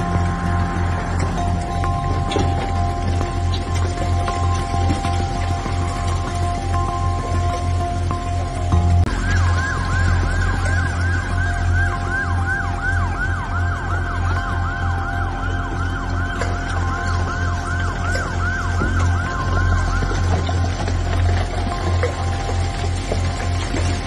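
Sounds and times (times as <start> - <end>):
emergency siren wailing: 0.0 - 24.0
low steady rumble: 0.0 - 24.0.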